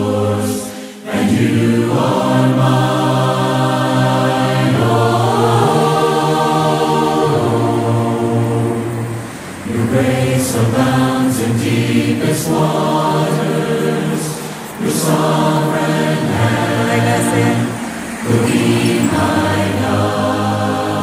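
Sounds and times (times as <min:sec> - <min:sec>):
choir singing held notes: 0:00.0 - 0:21.0.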